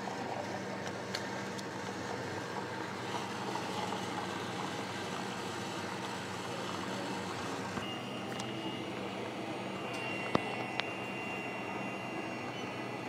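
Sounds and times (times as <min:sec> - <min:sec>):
coffee machine motor hum: 0:00.0 - 0:13.0.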